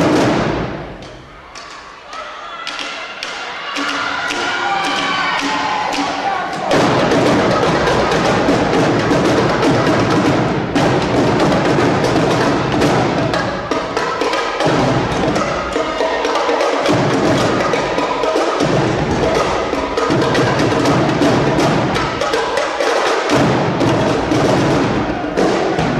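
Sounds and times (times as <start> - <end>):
marching drumline playing: 0.0 - 2.0, 2.7 - 25.9.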